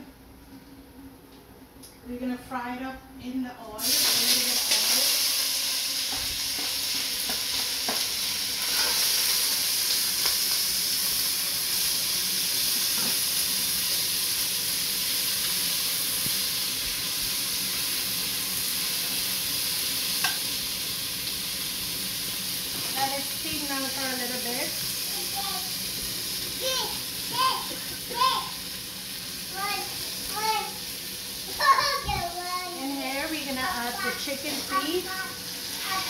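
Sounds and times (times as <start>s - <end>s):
vegetables sizzling in hot oil: 3.8s - 36.0s.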